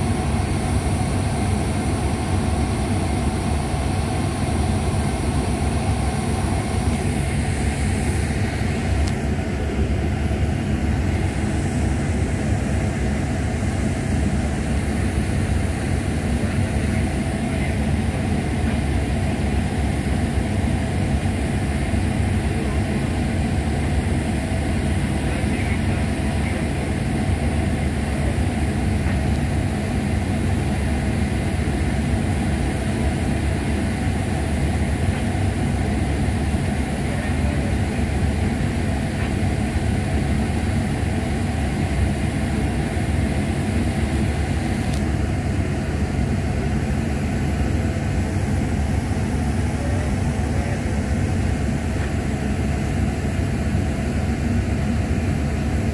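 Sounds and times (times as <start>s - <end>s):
machinery drone: 0.0s - 55.9s.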